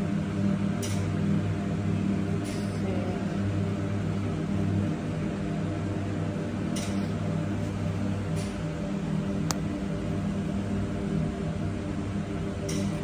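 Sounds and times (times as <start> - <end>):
refrigerator and ventilation hum: 0.0 - 13.0.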